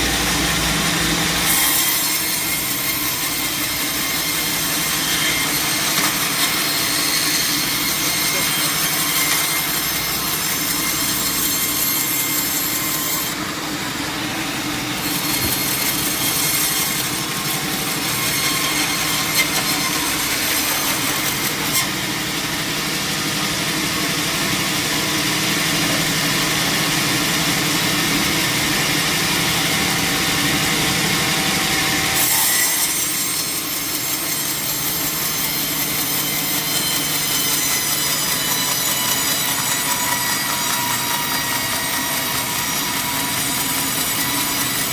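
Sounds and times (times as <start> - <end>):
saw cutting through log: 0.0 - 44.9.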